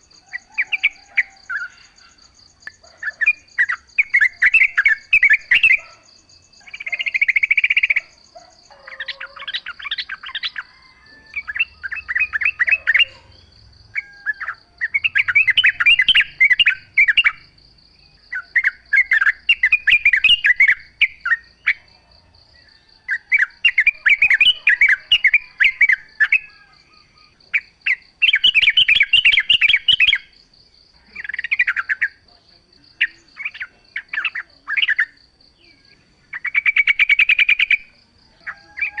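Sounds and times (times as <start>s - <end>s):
bird singing bubbly chattering phrases: 0.0s - 17.6s, 18.2s - 21.9s, 23.2s - 30.4s, 31.1s - 39.0s.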